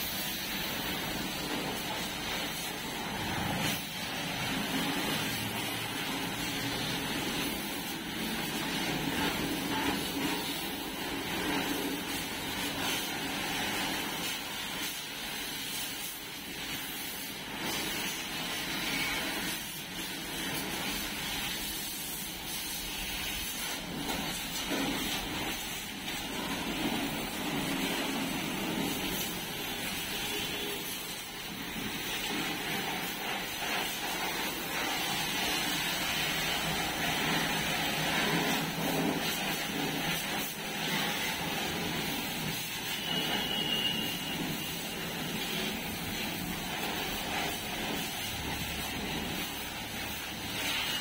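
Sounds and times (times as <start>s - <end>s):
pressure washer spraying water: 0.0s - 51.0s.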